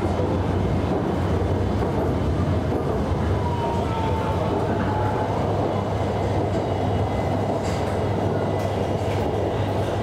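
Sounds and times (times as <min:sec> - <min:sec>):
train wheels rumbling: 0:00.0 - 0:10.0.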